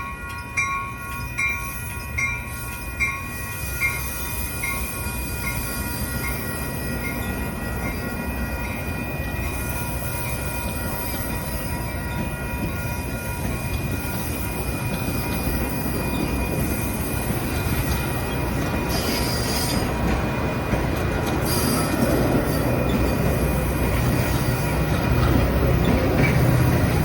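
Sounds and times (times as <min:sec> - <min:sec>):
train rumble on rails: 0:00.0 - 0:27.0
train wheels squealing: 0:00.0 - 0:27.0.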